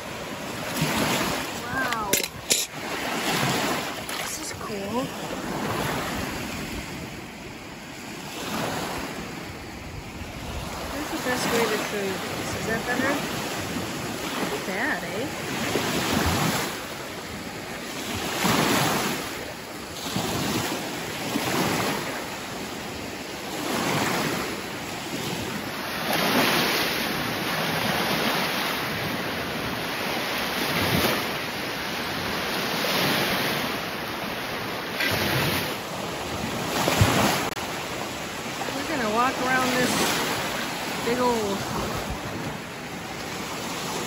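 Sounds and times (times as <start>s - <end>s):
waves washing onto pebble beach: 0.0s - 44.0s.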